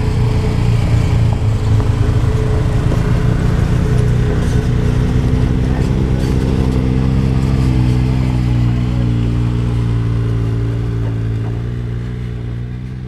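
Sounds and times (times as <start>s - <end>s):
utility vehicle engine driving past: 0.0s - 13.0s.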